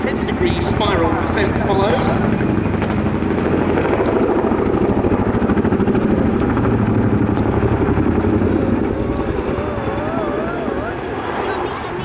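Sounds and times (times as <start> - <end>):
helicopter rotor blades pulsing: 0.0 - 12.0.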